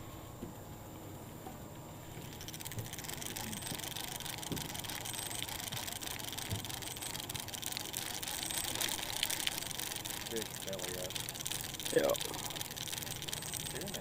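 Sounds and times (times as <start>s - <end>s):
boat motor running: 2.1s - 14.0s.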